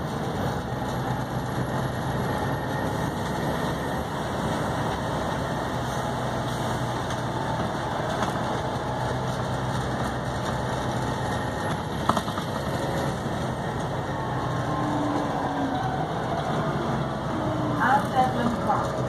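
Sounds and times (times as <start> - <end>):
bus diesel engine humming: 0.0 - 19.0.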